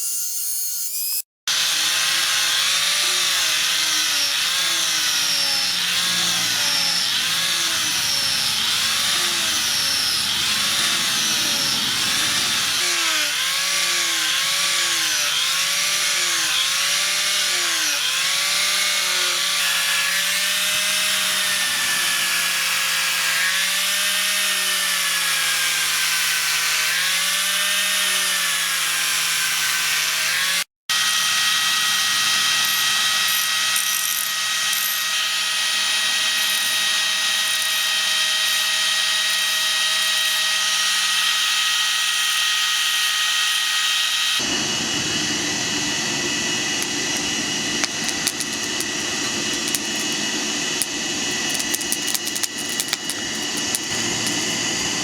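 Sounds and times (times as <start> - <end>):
power tool grinding steel: 0.0 - 55.0.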